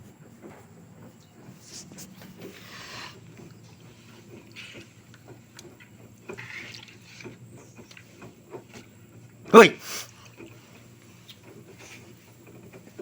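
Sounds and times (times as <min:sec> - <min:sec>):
faint steady hum: 0:00.0 - 0:13.0
water swishing in washing machine: 0:00.0 - 0:13.0.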